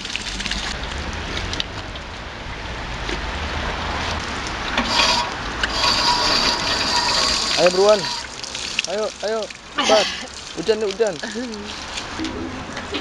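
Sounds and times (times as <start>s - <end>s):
fountain water splashing on grate: 0.0s - 2.3s, 4.1s - 13.0s
rain falling: 0.0s - 2.5s, 3.3s - 13.0s.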